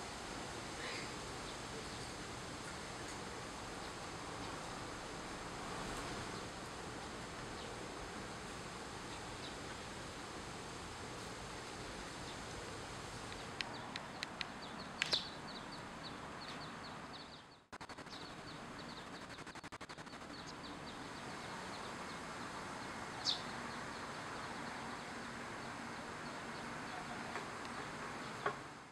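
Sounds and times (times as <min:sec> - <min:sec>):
steady outdoor hiss: 0:00.0 - 0:28.9.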